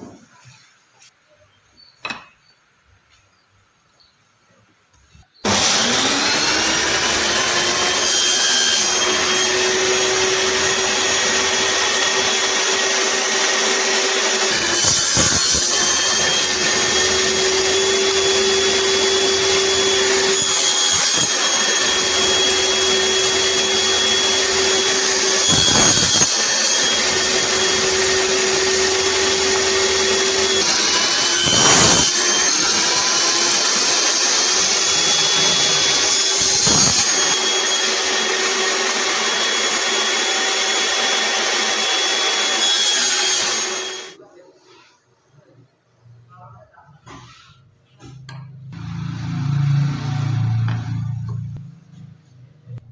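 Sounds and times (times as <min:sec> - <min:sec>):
table saw whining: 0:05.4 - 0:44.2, 0:48.4 - 0:52.1.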